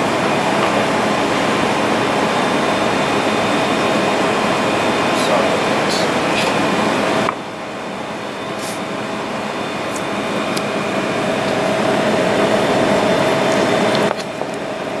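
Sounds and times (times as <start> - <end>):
constant tone: 0.0 - 15.0
ventilation fan hum: 0.0 - 15.0.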